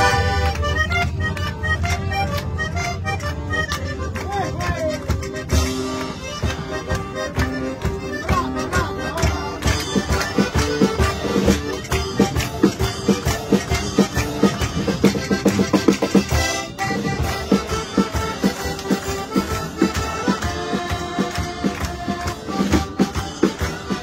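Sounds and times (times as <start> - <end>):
accordion playing chords: 0.0 - 24.0
people clapping along: 0.0 - 24.0.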